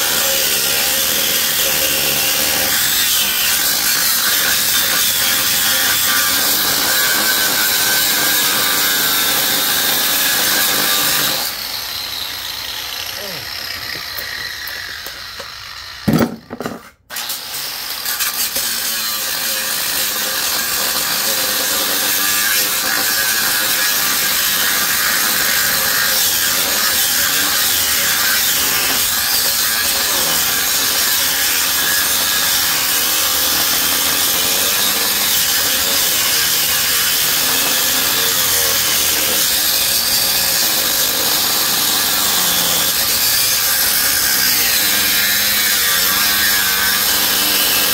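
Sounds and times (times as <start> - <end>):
reciprocating saw cutting metal: 0.0 - 47.9.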